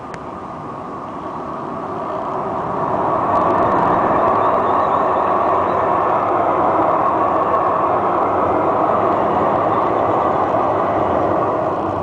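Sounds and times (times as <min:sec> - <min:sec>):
light-rail train rumbling past: 0:00.0 - 0:12.0.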